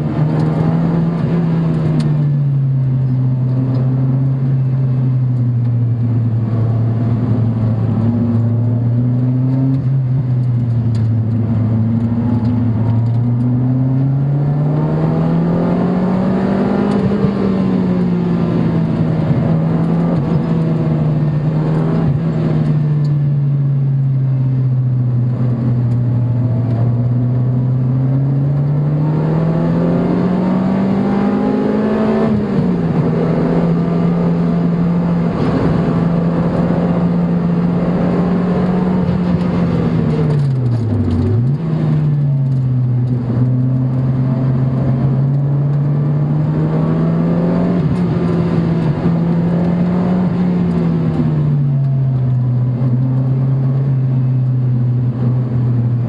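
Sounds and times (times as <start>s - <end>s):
car engine revving hard: 0.0s - 2.3s, 5.9s - 22.9s, 25.2s - 54.4s
wind and road noise: 0.0s - 56.0s.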